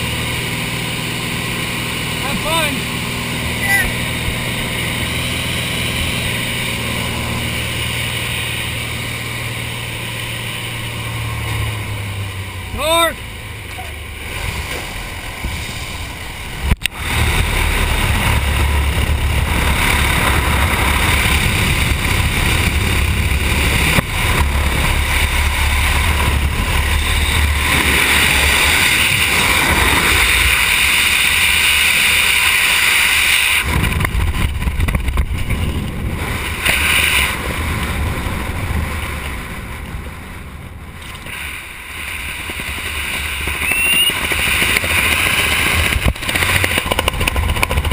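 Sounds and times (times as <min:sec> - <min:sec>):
airplane engine: 0:00.0 - 0:47.9
freefall wind buffeting microphone: 0:00.0 - 0:47.9.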